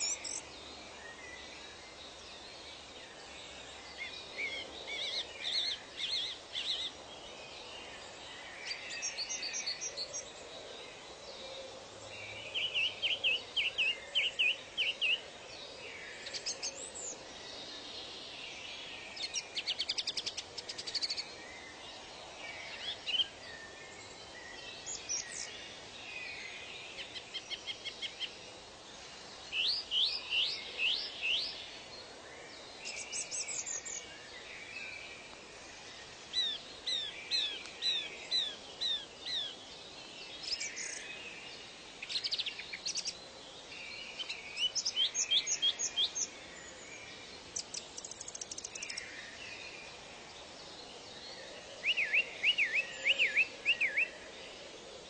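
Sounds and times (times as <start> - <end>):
birds chirping and trilling: 0.0 - 55.0
steady outdoor hiss: 0.0 - 55.0.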